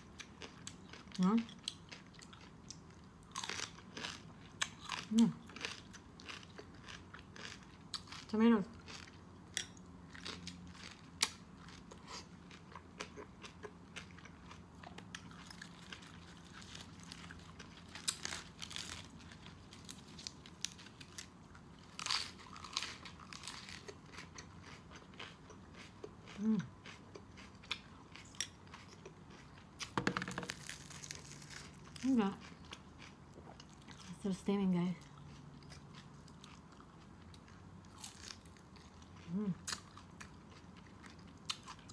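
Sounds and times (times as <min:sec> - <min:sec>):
chewing crunches: 0:00.0 - 0:34.2, 0:35.0 - 0:41.9.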